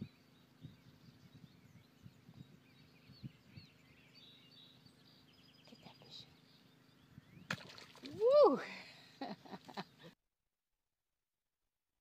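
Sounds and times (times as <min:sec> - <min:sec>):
faint birdsong: 0:00.0 - 0:10.2.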